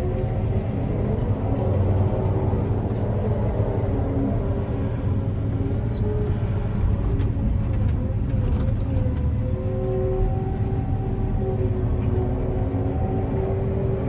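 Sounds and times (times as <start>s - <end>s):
heavy diesel engine rumble: 0.0s - 14.0s.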